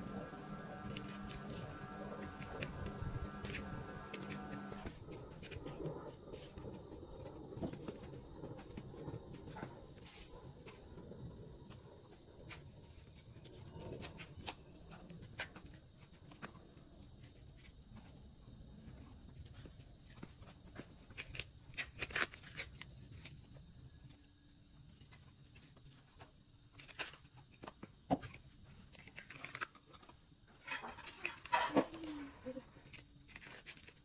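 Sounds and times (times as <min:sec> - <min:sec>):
insect chirring: 0:00.0 - 0:34.0.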